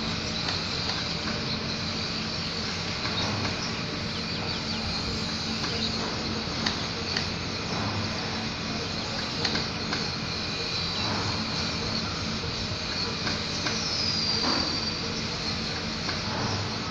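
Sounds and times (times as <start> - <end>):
outdoor background noise: 0.0 - 16.9.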